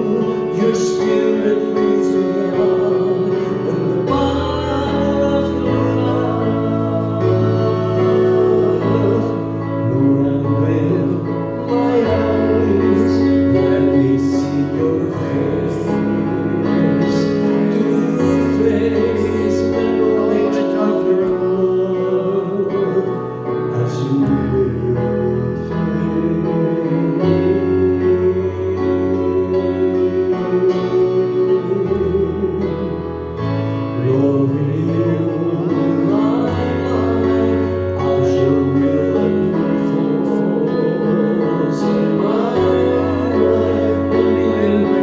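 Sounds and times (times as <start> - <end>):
held chords over bass: 0.0 - 45.0
worship song singing: 0.0 - 45.0.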